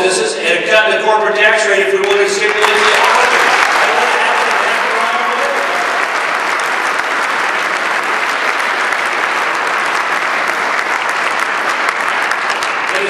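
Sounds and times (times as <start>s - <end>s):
audience applauding: 2.0s - 13.0s.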